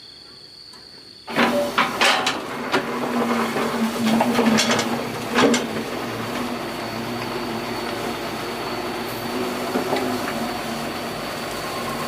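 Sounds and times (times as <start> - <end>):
excavator diesel engine running: 1.3 - 12.0.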